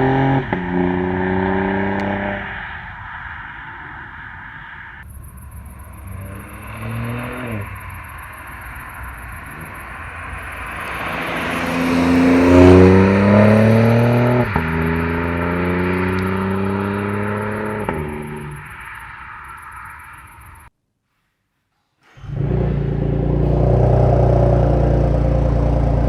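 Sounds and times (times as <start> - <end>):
car engine revving: 0.0 - 20.7, 22.1 - 26.0
exhaust crack: 0.0 - 20.7, 22.1 - 26.0.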